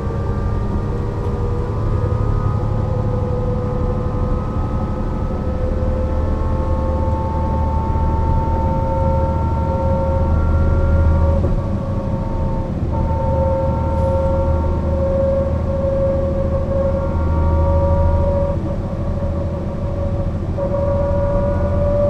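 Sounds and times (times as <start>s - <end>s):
bus diesel engine rumble: 0.0s - 22.0s
drivetrain whine: 0.0s - 22.0s.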